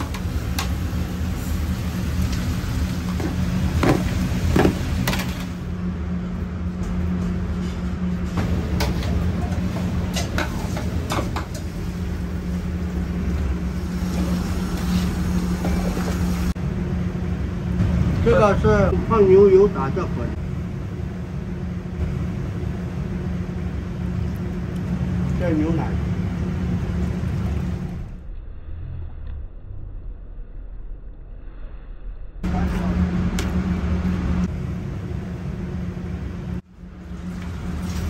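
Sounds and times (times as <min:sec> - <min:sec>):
steady low rumble: 0:00.0 - 0:38.0.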